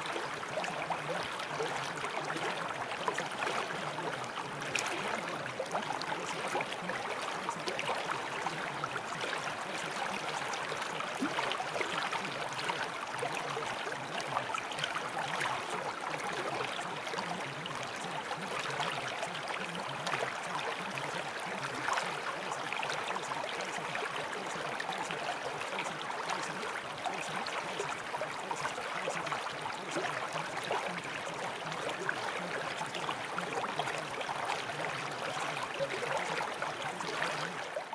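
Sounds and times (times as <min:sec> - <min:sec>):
rushing water: 0:00.0 - 0:37.9.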